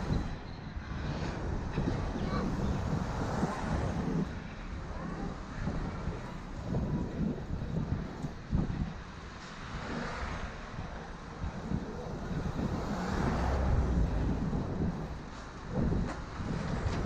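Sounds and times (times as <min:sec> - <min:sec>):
city street traffic: 0:00.0 - 0:17.0
vehicles passing: 0:00.0 - 0:17.0
wind rumbling on microphone: 0:00.0 - 0:17.0.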